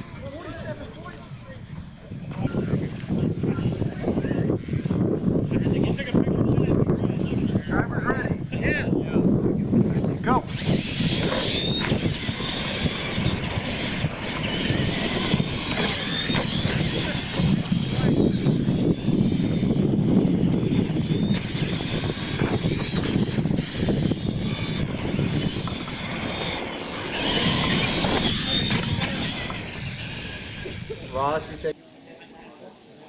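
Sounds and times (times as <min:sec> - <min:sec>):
electric motors whining: 0:00.0 - 0:31.8.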